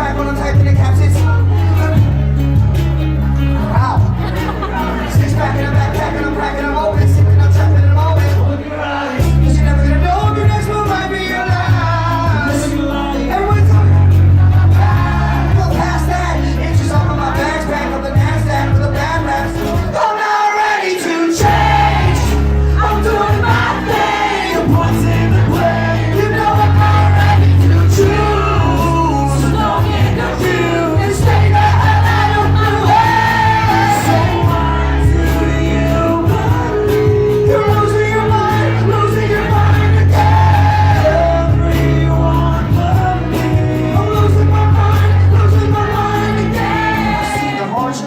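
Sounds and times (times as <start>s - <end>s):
held bass notes: 0.0s - 20.0s, 21.4s - 47.9s
live band music: 0.0s - 48.0s
person singing: 0.0s - 48.0s.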